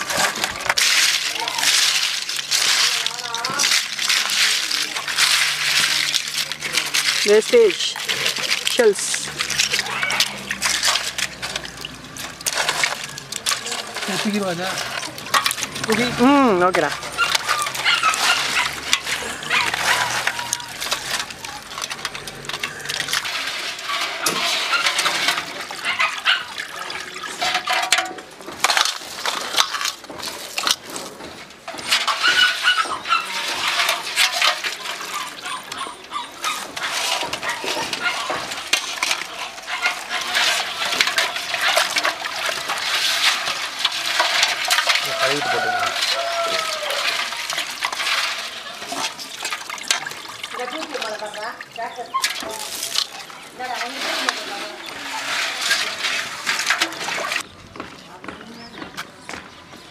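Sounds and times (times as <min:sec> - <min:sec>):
crab pieces clicking on metal plates: 0:00.0 - 0:51.3
water swishing in pot: 0:00.0 - 0:57.5.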